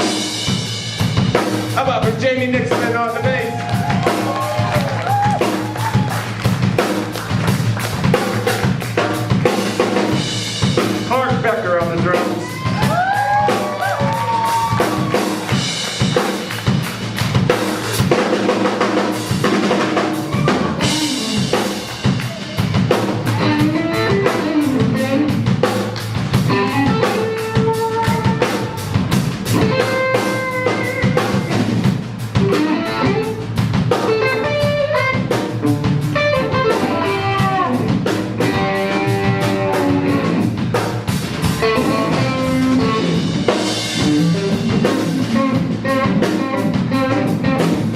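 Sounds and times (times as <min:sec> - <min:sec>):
drum kit beat: 0:00.0 - 0:47.9
rock guitar with bending notes: 0:00.0 - 0:47.9.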